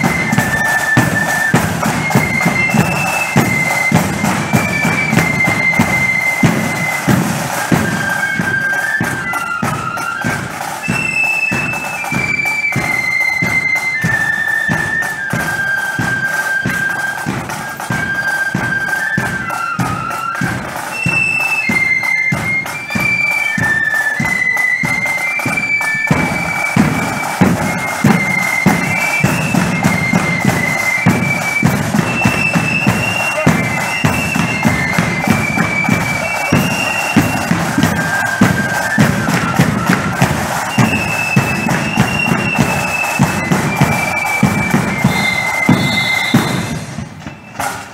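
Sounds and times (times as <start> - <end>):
flutes playing melody: 0.0 - 47.9
marching drum beat: 0.0 - 47.9.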